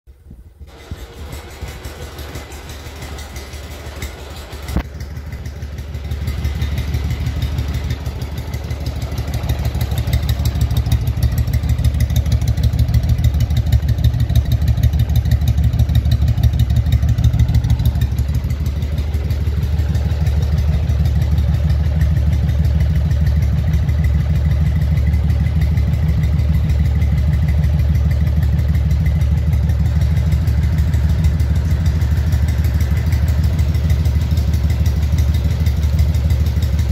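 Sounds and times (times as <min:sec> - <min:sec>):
motorcycle engine idling: 0:00.1 - 0:36.9.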